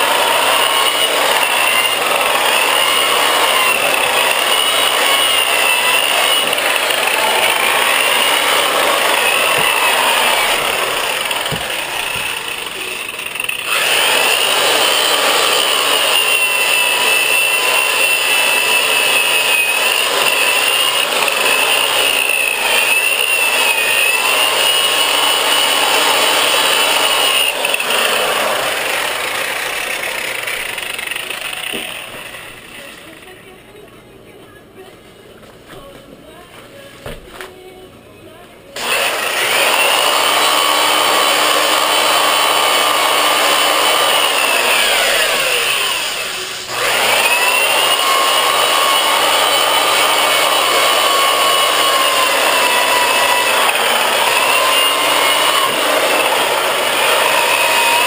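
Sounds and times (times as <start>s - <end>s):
sander motor whine: 0.0s - 33.2s, 38.8s - 58.0s.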